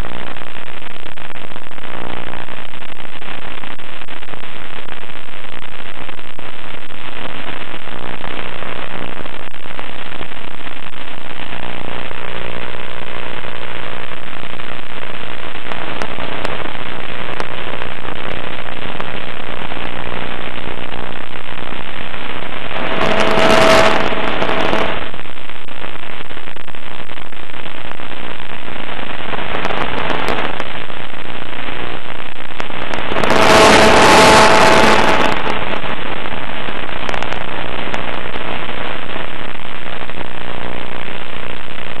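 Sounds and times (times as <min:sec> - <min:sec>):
steady hiss and crackle: 0:00.0 - 0:42.0.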